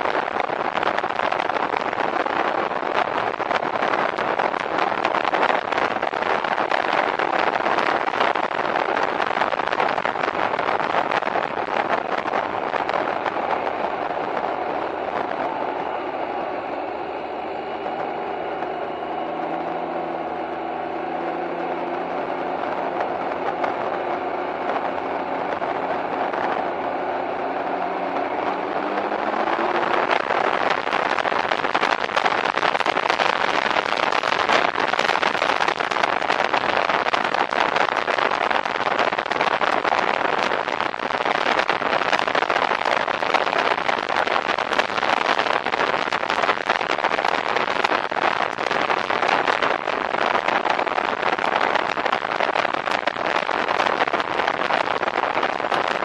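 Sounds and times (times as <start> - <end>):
wind and road noise: 0.0 - 56.0
three-wheeler engine accelerating: 0.3 - 56.0.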